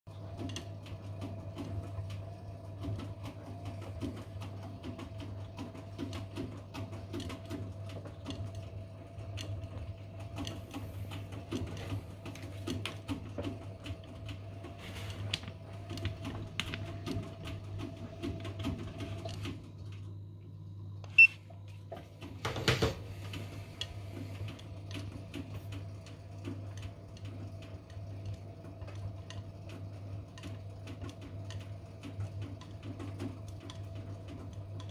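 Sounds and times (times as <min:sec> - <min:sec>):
washing machine drum tumbling: 0:00.1 - 0:34.9
water and laundry sloshing: 0:00.1 - 0:34.9.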